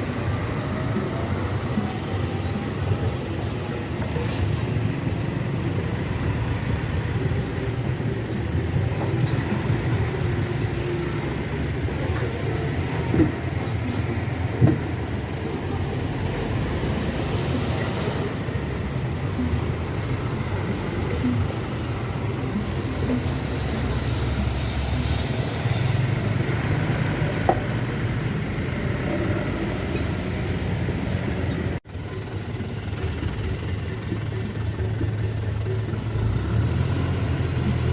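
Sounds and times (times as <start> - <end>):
heavy trucks rumbling past: 0.0 - 37.9.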